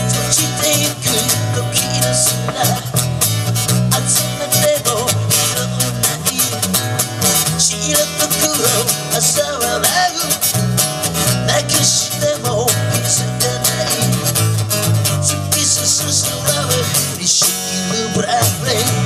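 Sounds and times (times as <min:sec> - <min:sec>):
man singing into a microphone: 0:00.0 - 0:03.1, 0:03.8 - 0:19.0
acoustic guitar strumming: 0:00.0 - 0:19.0
electric bass line: 0:00.0 - 0:19.0.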